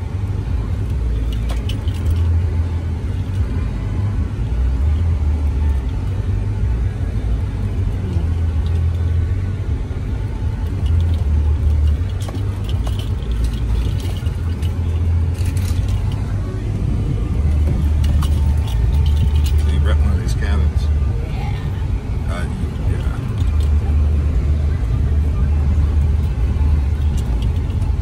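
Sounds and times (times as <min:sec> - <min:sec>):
vehicle driving on dirt road: 0:00.0 - 0:28.0.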